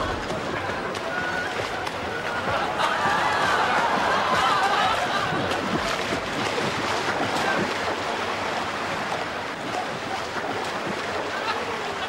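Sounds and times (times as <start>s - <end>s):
water splashing from swimmer: 0.0s - 12.0s.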